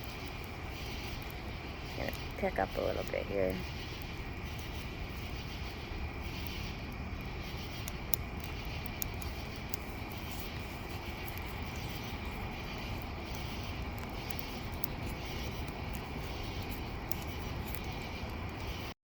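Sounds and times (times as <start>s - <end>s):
campfire crackling and popping: 0.0s - 18.9s
low outdoor rumble: 0.0s - 19.0s.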